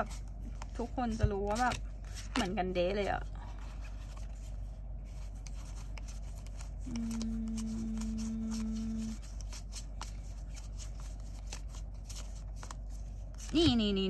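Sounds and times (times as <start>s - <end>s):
cards clicking and sliding: 0.0s - 3.0s, 5.1s - 13.7s.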